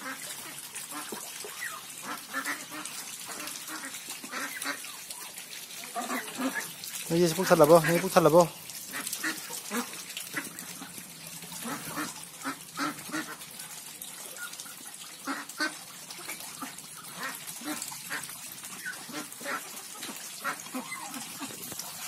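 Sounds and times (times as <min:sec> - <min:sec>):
ducks quacking: 0:00.0 - 0:05.0, 0:05.9 - 0:11.0, 0:11.6 - 0:13.4, 0:15.2 - 0:21.7.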